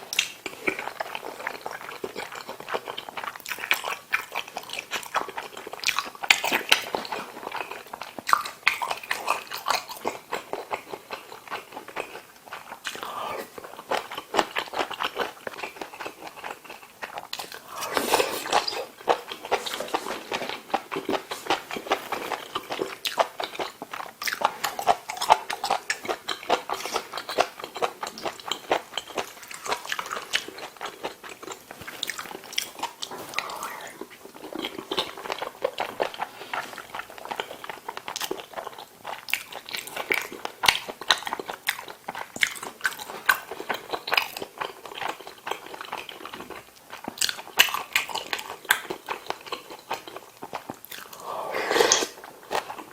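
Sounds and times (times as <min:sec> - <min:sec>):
person chewing with mouth clicks: 0:00.0 - 0:52.9.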